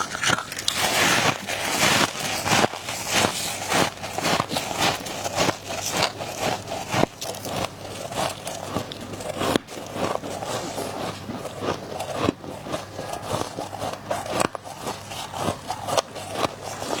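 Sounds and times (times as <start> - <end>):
chewing crunchy ice: 0.0 - 17.0.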